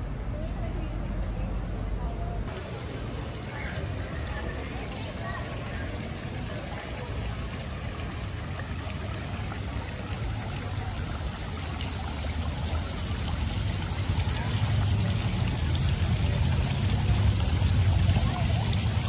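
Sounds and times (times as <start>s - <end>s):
fountain water splashing: 2.5s - 19.0s.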